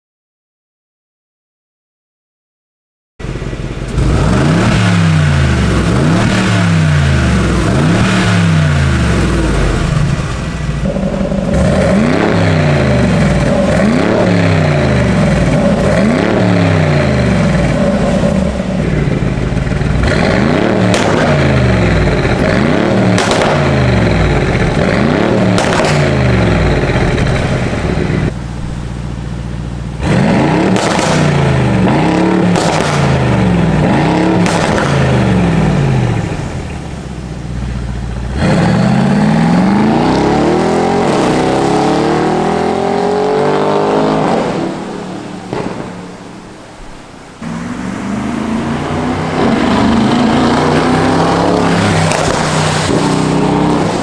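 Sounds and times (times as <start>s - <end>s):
car engine revving: 3.2s - 54.0s.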